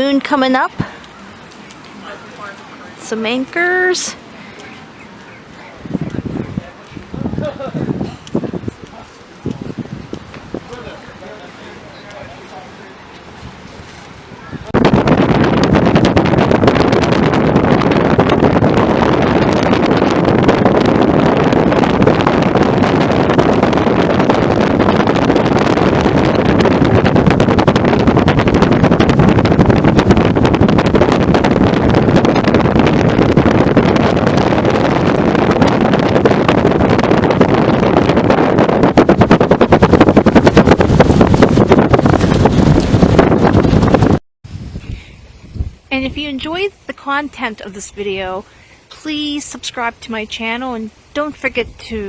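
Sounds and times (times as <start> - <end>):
strong wind on microphone: 0.0 - 52.0.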